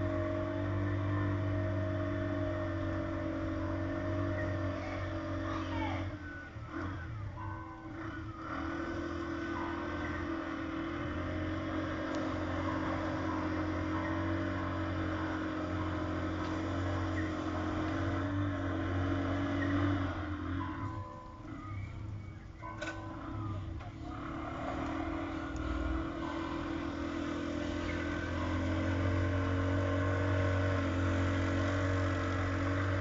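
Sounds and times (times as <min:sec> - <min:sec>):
vehicle engine at high revs: 0:00.0 - 0:33.0.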